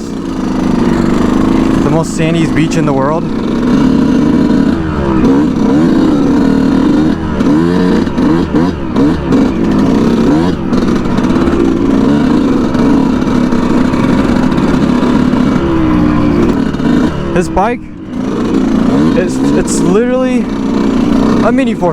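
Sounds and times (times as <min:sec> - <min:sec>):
two-stroke dirt bike engine revving: 0:00.0 - 0:21.9.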